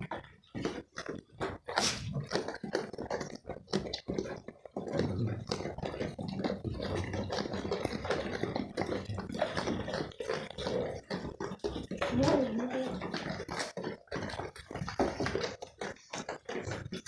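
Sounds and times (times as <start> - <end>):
goats crunching wheat: 0.0 - 17.0.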